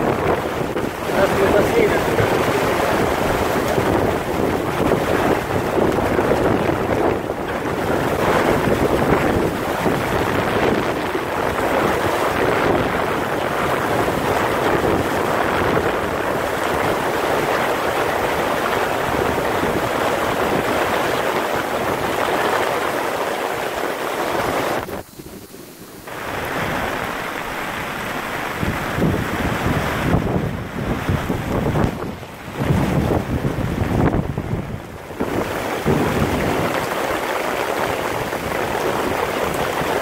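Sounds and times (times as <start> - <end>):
heavy rain: 0.0 - 40.0
wind buffeting the microphone: 0.0 - 40.0.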